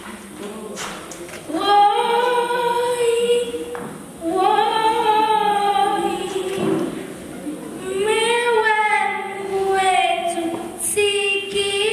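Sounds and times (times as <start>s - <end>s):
girl singing unaccompanied: 0.4s - 7.1s, 7.7s - 11.9s.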